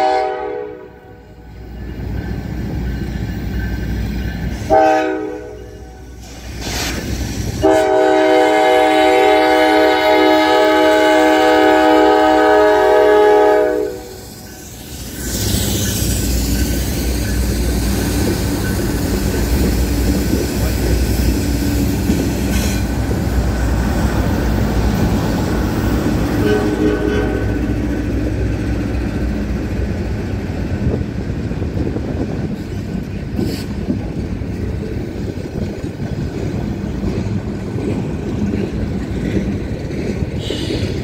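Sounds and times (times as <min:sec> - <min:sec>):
diesel locomotive engines droning: 0:00.0 - 0:41.0
train wheels on rails: 0:00.0 - 0:41.0.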